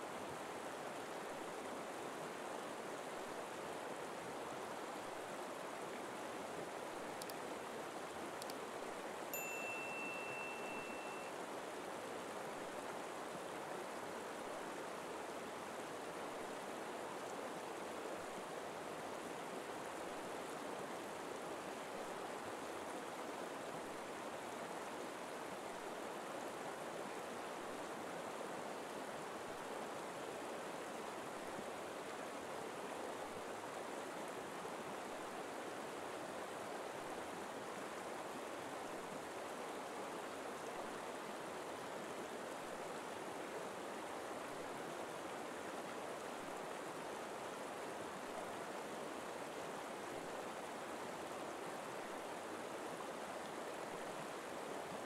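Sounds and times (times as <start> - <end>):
river water rushing: 0.1 - 55.0.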